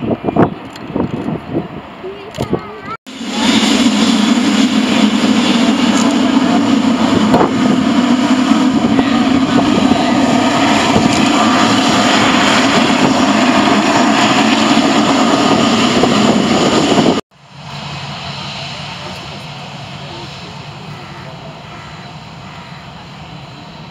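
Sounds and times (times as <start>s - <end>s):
jet engines running: 0.0s - 23.9s.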